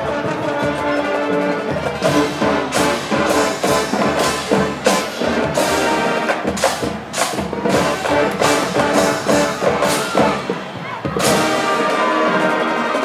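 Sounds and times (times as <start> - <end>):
brass holding loud chords: 0.0 - 6.7, 7.6 - 10.6, 11.2 - 13.0
percussion sharp accents: 0.0 - 13.0.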